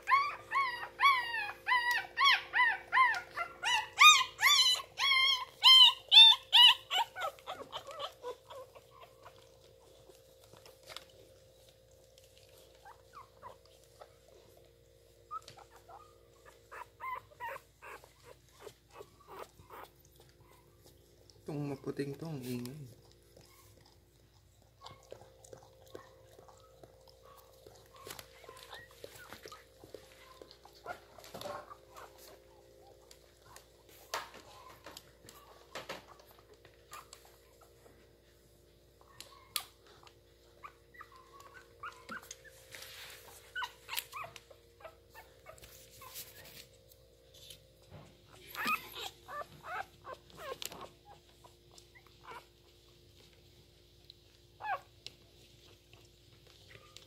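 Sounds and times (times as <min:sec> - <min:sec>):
puppies squeaking and whimpering: 0:00.0 - 0:11.3, 0:12.3 - 0:38.2, 0:38.8 - 0:46.8, 0:48.3 - 0:52.6, 0:54.6 - 0:55.0.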